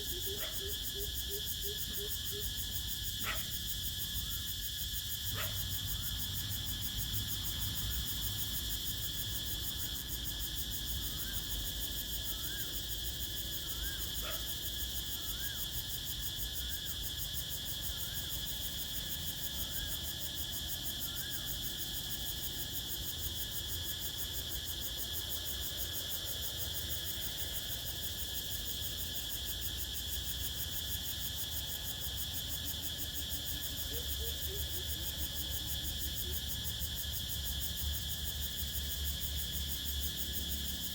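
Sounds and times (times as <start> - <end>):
crickets and insects trilling: 0.0 - 40.9.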